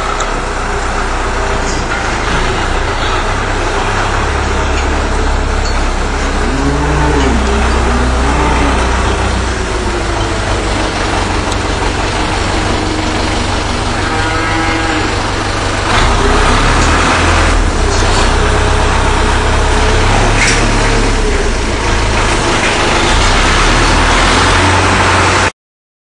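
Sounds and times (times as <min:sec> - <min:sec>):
tractor diesel engine running: 0:00.0 - 0:25.5.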